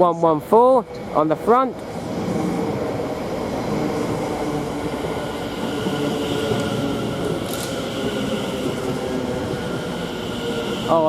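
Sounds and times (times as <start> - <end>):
electric train whine: 0.0 - 11.0
rail and wheel noise: 0.0 - 11.0.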